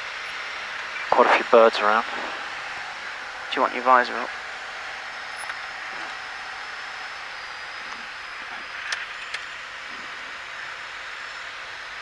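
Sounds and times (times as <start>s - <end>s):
aircraft cabin engine noise: 0.0s - 12.0s.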